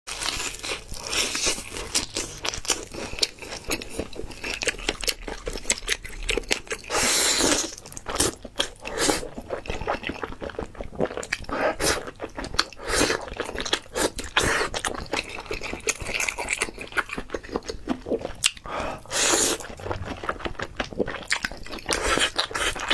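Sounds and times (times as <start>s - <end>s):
crunching and chewing fried chicken: 0.1s - 22.9s.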